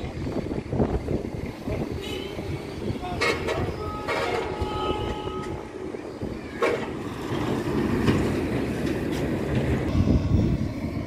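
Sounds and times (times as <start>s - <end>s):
heavy vehicle rumble: 0.0s - 11.0s.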